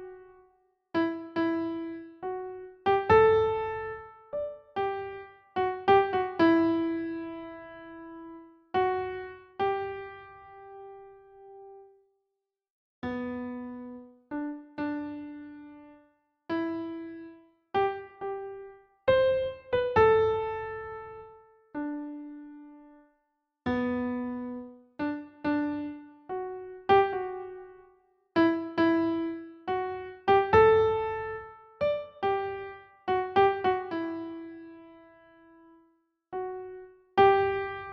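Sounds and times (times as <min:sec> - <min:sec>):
slow solo piano melody: 0:01.0 - 0:11.9, 0:16.5 - 0:23.0, 0:23.7 - 0:27.8, 0:28.4 - 0:37.9.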